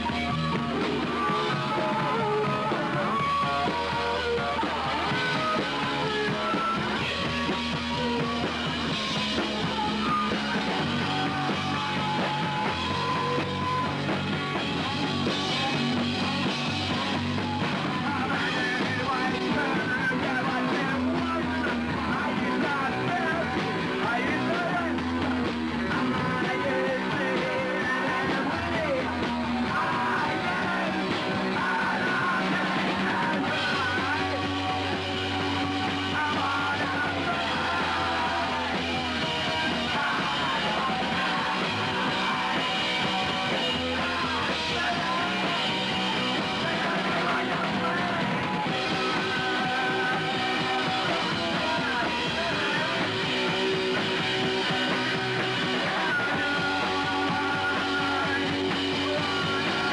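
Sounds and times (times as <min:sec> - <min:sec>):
electric guitar: 0:00.0 - 0:59.9
shouted vocals: 0:00.0 - 0:59.9.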